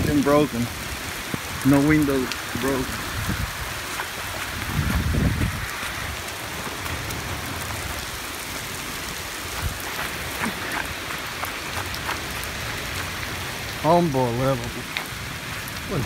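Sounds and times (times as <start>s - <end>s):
raindrop ticks: 0.0s - 16.0s
steady rain hiss: 0.0s - 16.0s.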